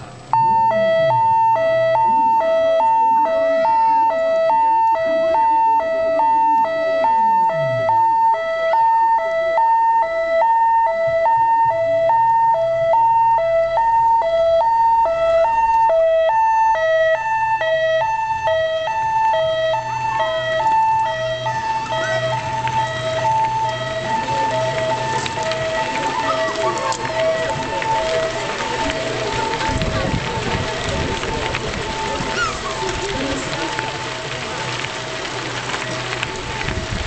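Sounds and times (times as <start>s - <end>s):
two-tone siren: 0.3s - 37.0s.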